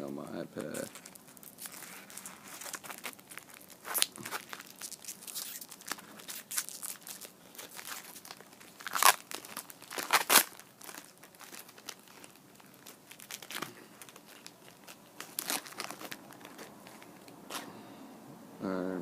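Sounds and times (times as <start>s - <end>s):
wrapper crinkling and tearing: 0.1s - 17.7s.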